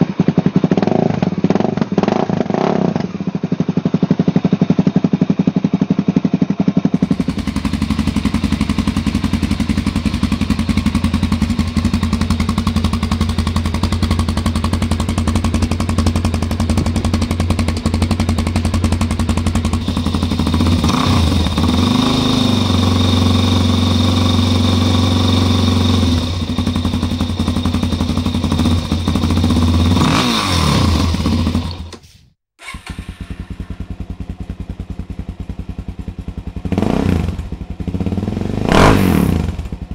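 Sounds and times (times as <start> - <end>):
motorcycle engine idling: 0.0 - 31.9, 32.6 - 39.9.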